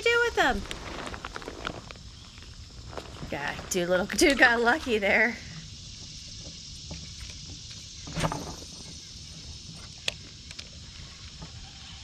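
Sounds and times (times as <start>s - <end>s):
insects singing: 0.0s - 12.0s.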